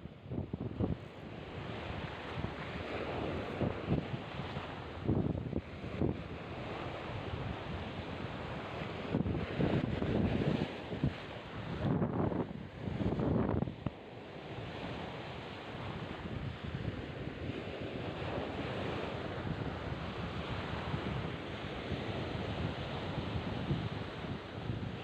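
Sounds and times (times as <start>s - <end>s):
wind buffeting microphone: 0.0s - 25.0s
surf washing onto beach: 0.3s - 25.0s.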